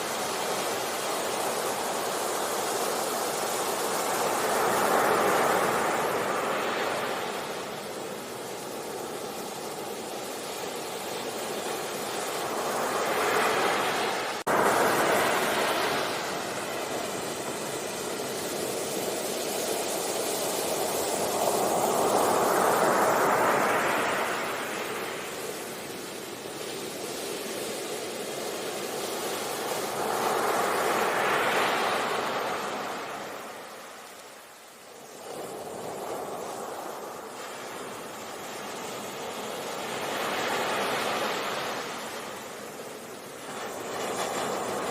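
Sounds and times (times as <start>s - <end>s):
ocean waves washing onto beach: 0.0s - 44.9s.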